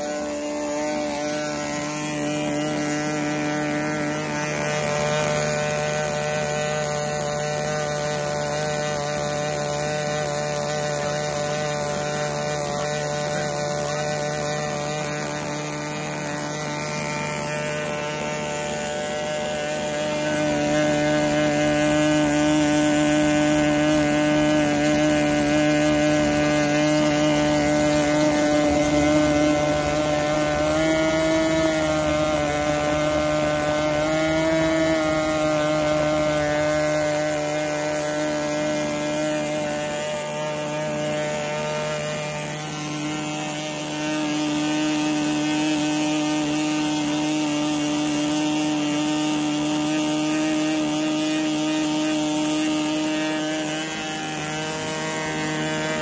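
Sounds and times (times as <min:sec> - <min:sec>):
model aircraft engine running: 0:00.0 - 0:56.0.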